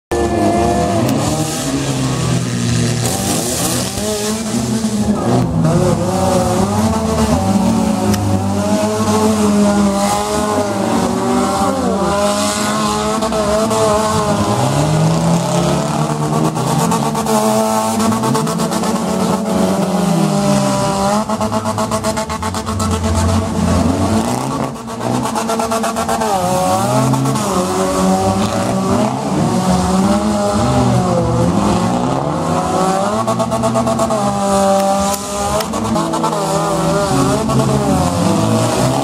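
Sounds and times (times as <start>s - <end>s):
car engines revving: 0.1s - 39.0s.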